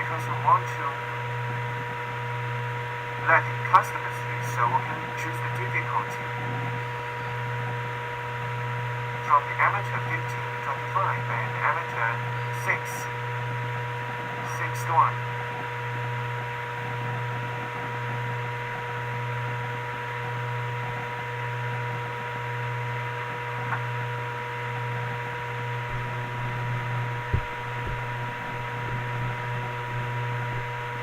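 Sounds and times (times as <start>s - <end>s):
electrical hum and hiss: 0.0s - 31.0s
faint steady tones: 0.0s - 31.0s.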